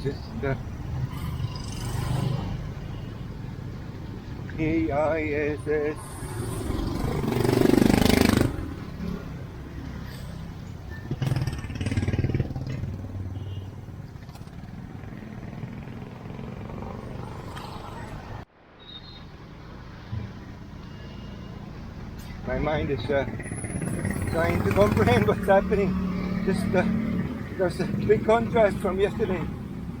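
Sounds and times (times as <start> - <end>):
motorcycles passing: 0.0 - 18.5, 19.4 - 30.0
traffic hum: 0.0 - 30.0.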